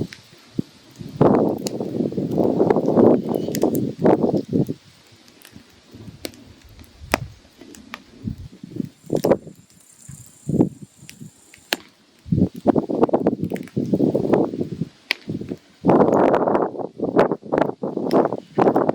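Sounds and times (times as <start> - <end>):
firewood crackling and popping: 0.0 - 18.9.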